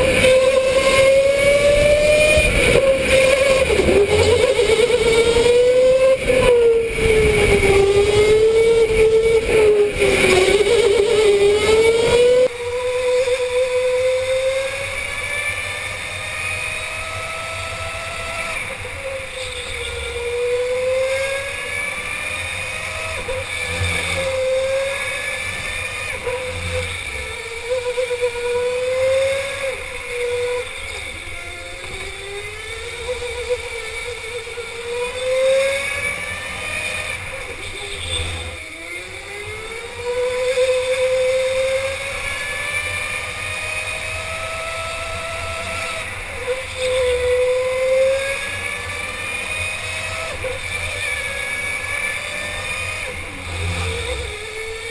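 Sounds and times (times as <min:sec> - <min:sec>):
electric go-kart motor whining: 0:00.0 - 0:54.9.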